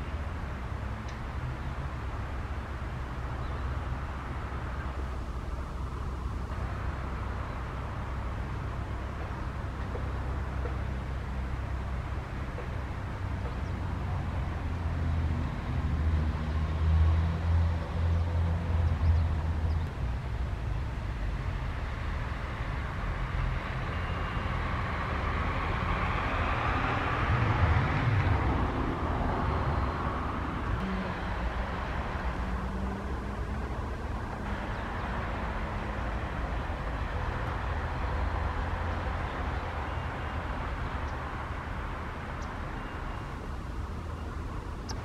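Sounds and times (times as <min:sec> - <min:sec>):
engine rumble: 0:00.0 - 0:45.0.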